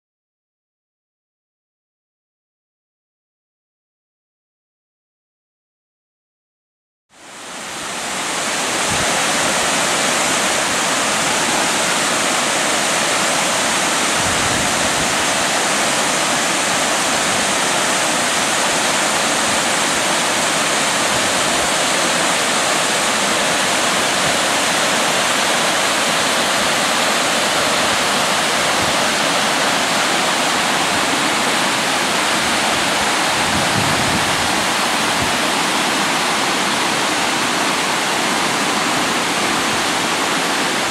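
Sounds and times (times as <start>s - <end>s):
waterfall roaring: 7.2s - 40.9s.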